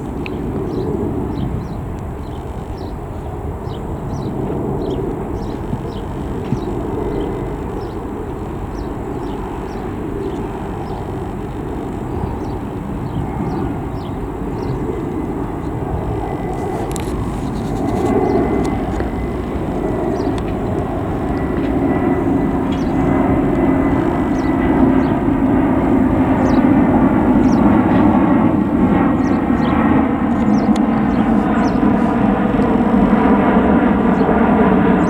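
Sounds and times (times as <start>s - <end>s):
distant jet airliner rumble: 0.0s - 35.0s
small birds chirping: 0.0s - 35.0s.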